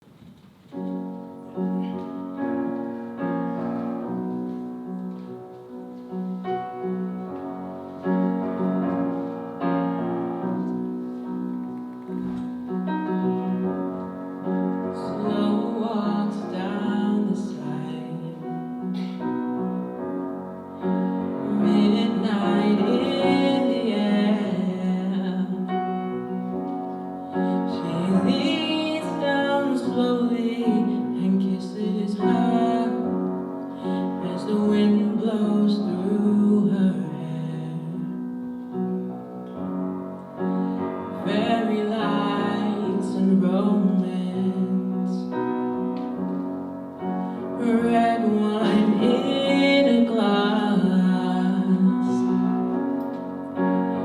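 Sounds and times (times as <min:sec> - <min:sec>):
piano ballad: 0:00.0 - 0:54.0.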